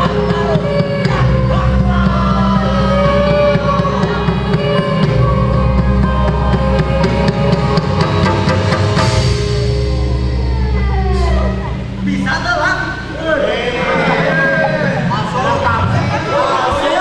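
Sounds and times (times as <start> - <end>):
gamelan music: 0.0 - 16.6
drum strokes: 0.0 - 16.8.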